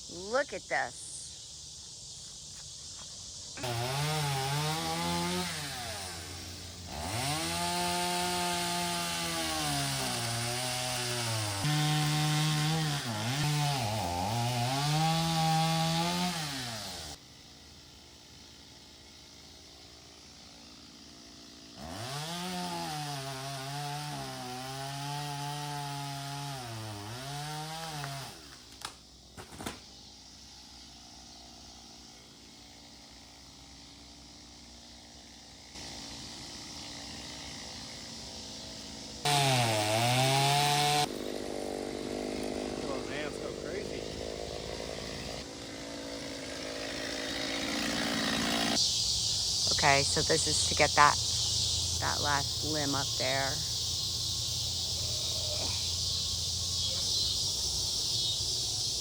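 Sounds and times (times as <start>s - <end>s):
chainsaw cutting wood: 2.6s - 59.0s.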